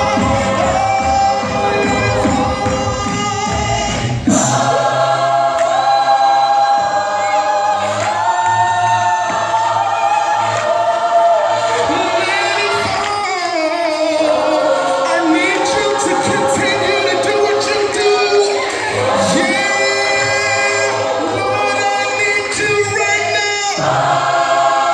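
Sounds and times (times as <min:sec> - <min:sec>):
gospel choir singing: 0:00.0 - 0:24.9.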